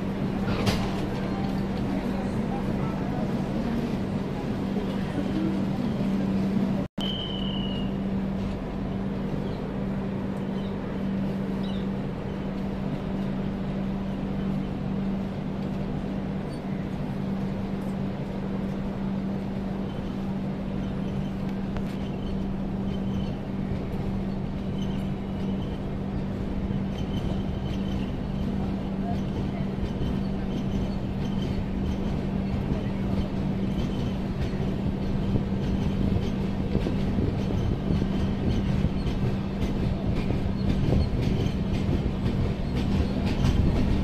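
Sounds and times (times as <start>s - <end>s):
train low drone and rumble: 0.0s - 44.0s.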